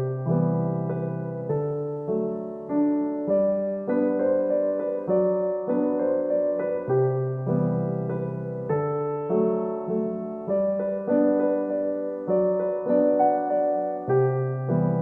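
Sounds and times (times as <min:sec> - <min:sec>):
gentle slow piano music: 0:00.0 - 0:15.0.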